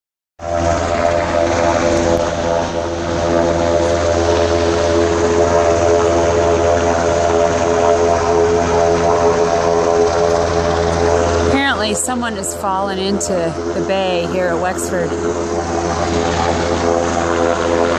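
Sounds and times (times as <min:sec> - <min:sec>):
helicopter droning overhead: 0:00.4 - 0:17.9.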